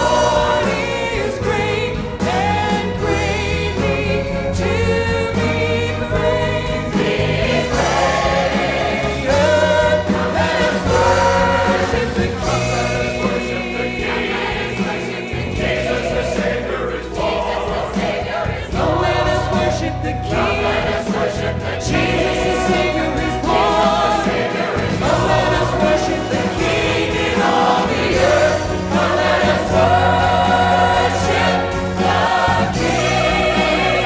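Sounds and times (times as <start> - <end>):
choir singing: 0.0 - 34.0
orchestral accompaniment: 0.0 - 34.0.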